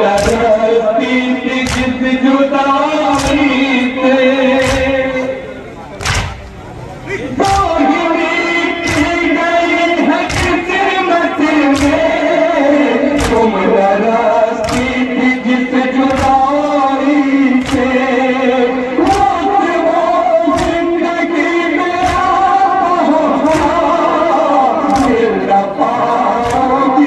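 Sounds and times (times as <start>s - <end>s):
chest beating in unison: 0.0s - 27.0s
men chanting a lament: 0.0s - 27.0s.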